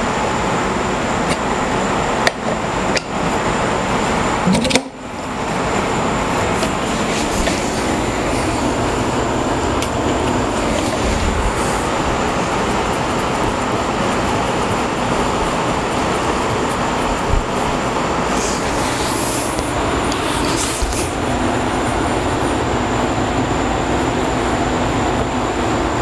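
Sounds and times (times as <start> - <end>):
electric fan running: 0.0 - 26.0.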